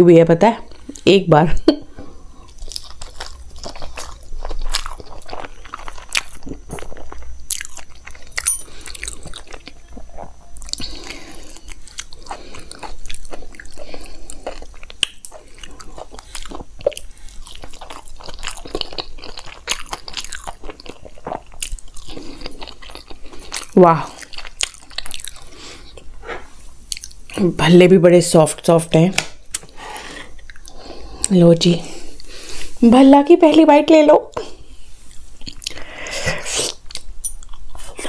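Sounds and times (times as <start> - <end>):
person chewing with mouth smacks: 1.9 - 27.4, 29.5 - 31.3, 34.3 - 38.0.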